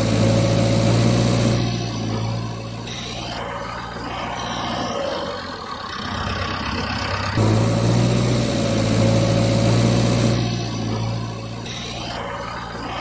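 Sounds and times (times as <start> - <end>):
louder steady engine: 0.0 - 13.0
vehicle engine idling: 0.0 - 13.0.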